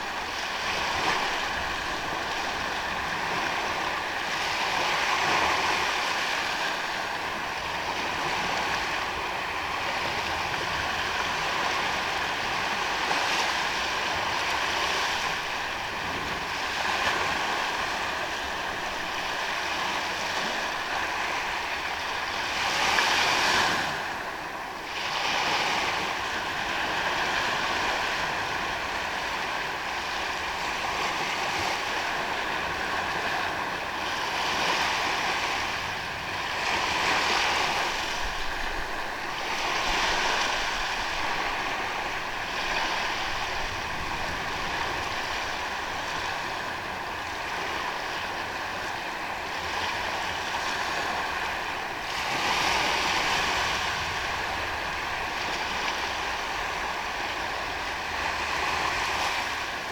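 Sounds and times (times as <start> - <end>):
waves washing onto sandy beach: 0.0 - 59.9.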